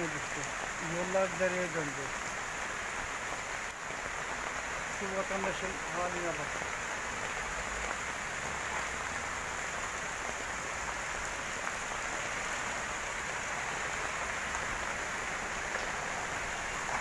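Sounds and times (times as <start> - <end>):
heavy rain on street: 0.0 - 17.0.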